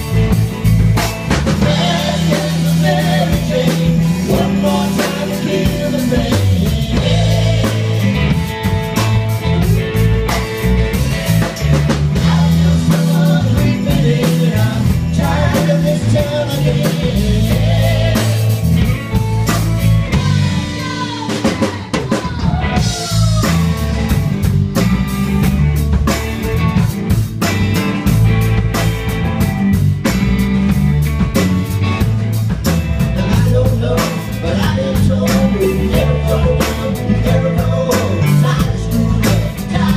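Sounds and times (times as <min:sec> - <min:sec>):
drum kit beat: 0:00.0 - 0:39.9
electric guitars: 0:00.0 - 0:39.9.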